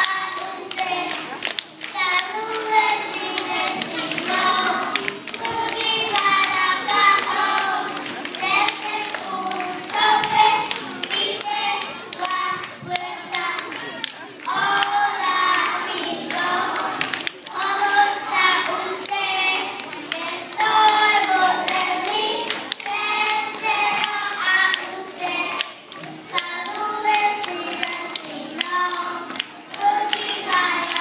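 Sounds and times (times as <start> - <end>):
children singing: 0.0 - 31.0
handclaps: 0.0 - 31.0.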